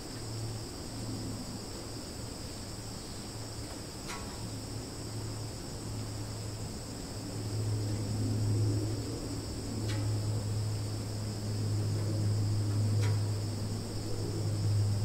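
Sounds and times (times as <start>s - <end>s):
insect chorus: 0.0s - 15.0s
steady low hum: 0.0s - 15.0s.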